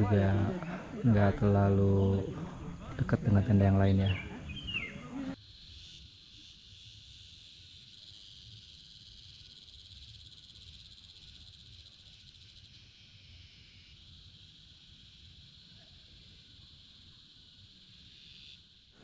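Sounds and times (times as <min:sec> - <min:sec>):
insect chorus trilling: 0:00.0 - 0:19.0.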